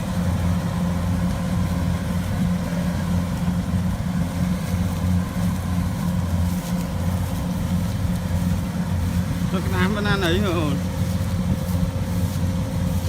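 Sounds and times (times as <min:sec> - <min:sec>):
harvester engine idling: 0:00.0 - 0:13.0.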